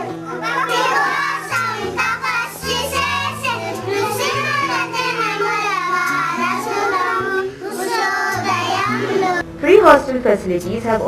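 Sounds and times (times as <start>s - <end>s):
children singing together: 0.0s - 9.4s
low musical accompaniment: 0.0s - 11.0s.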